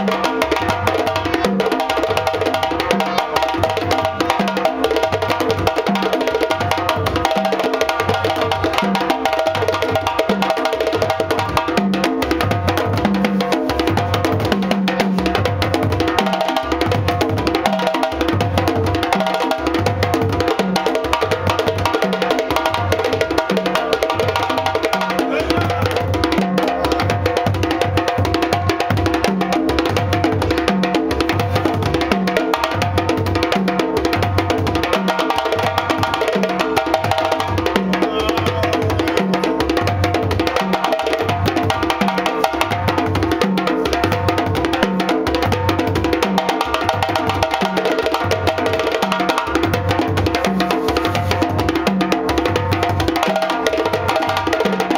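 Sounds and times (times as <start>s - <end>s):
djembe drums playing: 0.0s - 54.9s.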